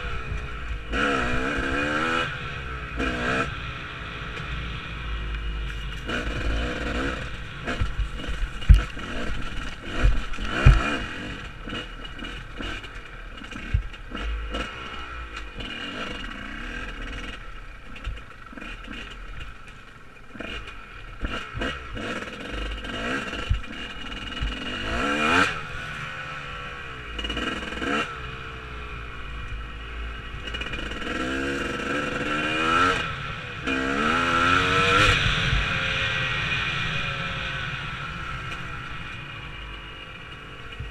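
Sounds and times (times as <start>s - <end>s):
dirt bike engine revving: 0.0s - 19.5s, 20.3s - 29.3s, 30.2s - 40.9s.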